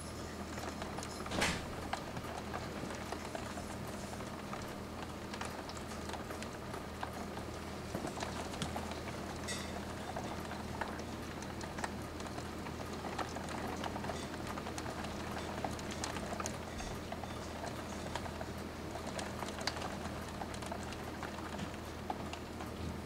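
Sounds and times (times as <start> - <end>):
raindrop ticks: 0.5 - 22.8.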